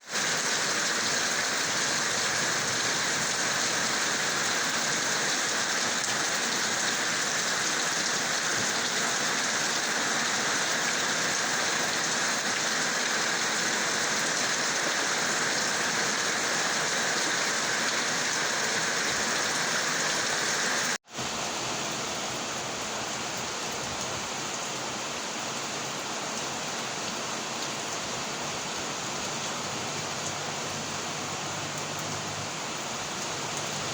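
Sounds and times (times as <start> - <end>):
heavy rain hissing: 0.0 - 33.9.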